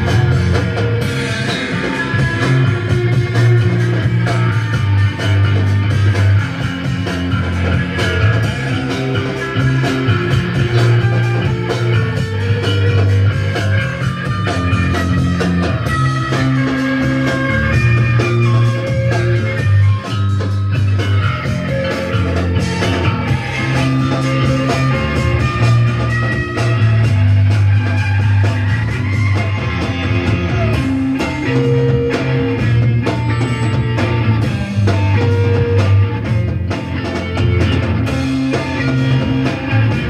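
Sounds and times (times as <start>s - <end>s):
bass line: 0.0s - 40.0s
rock guitar playing: 0.0s - 40.0s.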